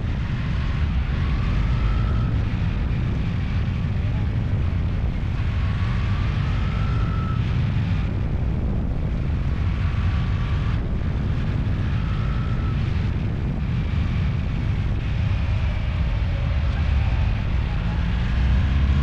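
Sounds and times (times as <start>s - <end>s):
faint wavering whines: 0.0s - 19.0s.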